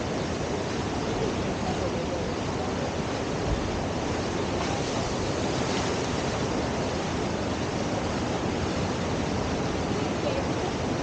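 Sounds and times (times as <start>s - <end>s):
rushing whitewater: 0.0s - 11.0s.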